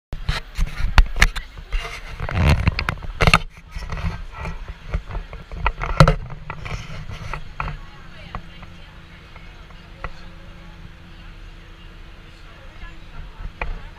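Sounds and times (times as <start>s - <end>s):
tram rumble and rattling: 0.2s - 13.9s.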